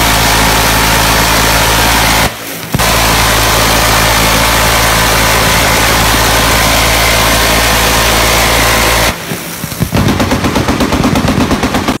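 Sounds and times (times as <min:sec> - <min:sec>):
minigun firing: 0:00.0 - 0:12.0
rapid gunshots: 0:00.0 - 0:12.0.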